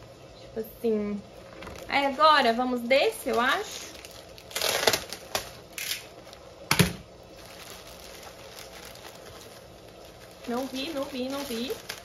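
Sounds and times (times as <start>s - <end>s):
plastic crinkling: 1.3s - 12.0s.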